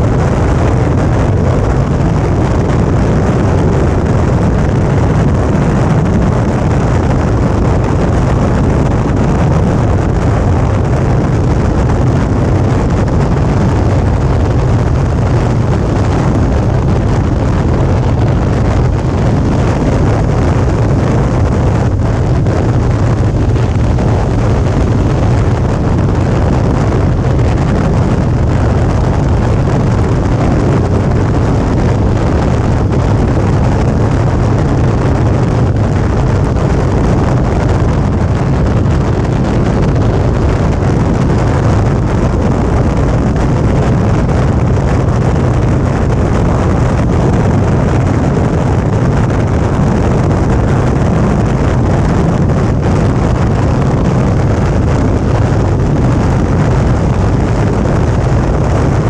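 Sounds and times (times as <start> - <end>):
motorcycle engine running: 0.0 - 59.0
road noise: 0.0 - 59.0
wind buffeting microphone: 0.0 - 59.0.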